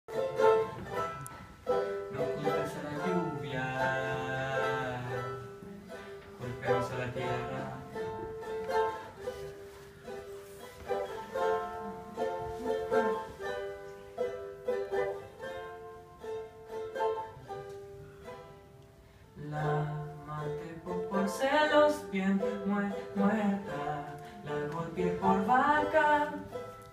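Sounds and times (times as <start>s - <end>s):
small acoustic string instrument: 0.1s - 26.9s.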